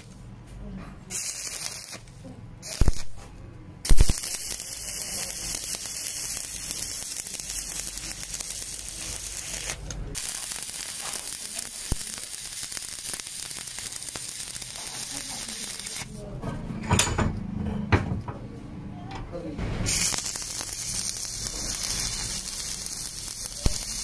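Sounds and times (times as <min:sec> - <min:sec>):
welding arc crackling and hissing: 0:01.1 - 0:16.2, 0:19.6 - 0:24.0.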